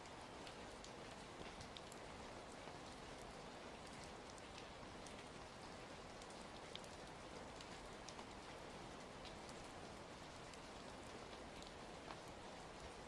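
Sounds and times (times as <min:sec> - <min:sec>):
fireplace fire crackling: 0:00.0 - 0:13.0
soft rain falling: 0:00.0 - 0:13.0.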